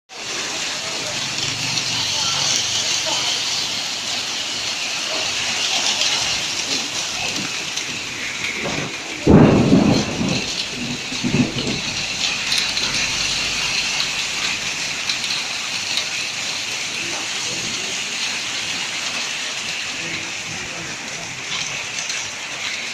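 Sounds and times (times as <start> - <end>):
heavy rain and hail: 0.1 - 22.9.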